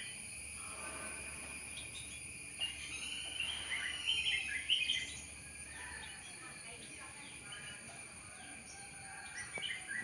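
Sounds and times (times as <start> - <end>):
insects droning: 0.0 - 10.0
small birds chirping: 1.2 - 10.0.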